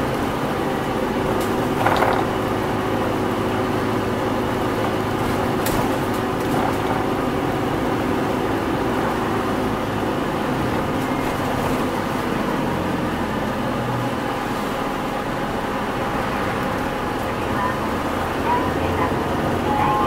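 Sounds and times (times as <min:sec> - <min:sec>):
bus diesel engine droning: 0:00.0 - 0:20.0
road noise: 0:00.0 - 0:20.0.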